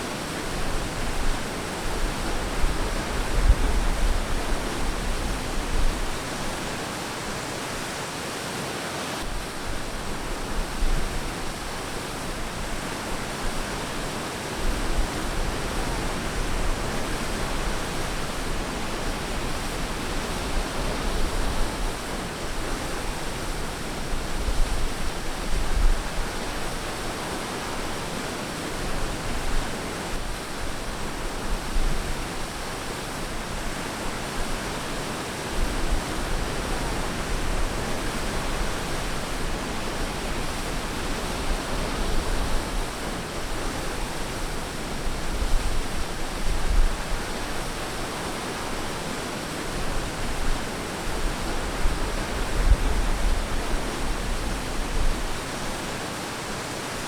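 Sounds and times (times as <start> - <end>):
ocean waves washing on beach: 0.0 - 57.0.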